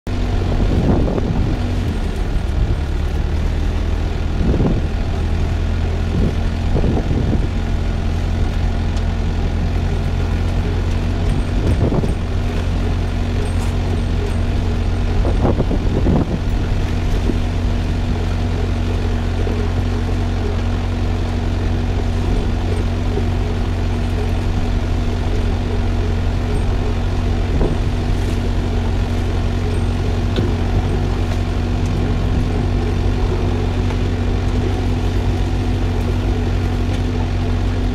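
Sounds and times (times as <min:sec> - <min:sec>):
constant hum: 0:00.1 - 0:37.9
tractor engine droning: 0:00.1 - 0:37.9.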